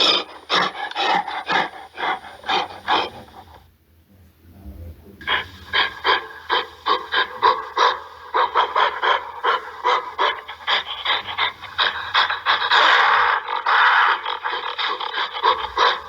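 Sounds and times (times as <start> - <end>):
gorilla panting calls: 0.0 - 3.7, 5.2 - 16.0.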